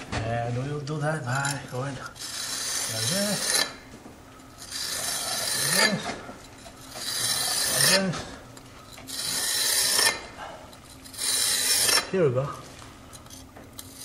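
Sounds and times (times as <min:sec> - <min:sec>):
tool scraping mortar: 0:00.9 - 0:12.6, 0:13.2 - 0:14.0.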